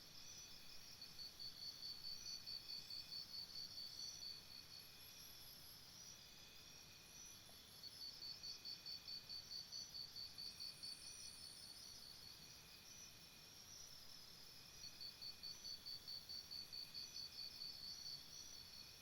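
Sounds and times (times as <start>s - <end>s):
faint high insect trills: 0.0s - 19.0s
insects chirping: 0.1s - 18.9s.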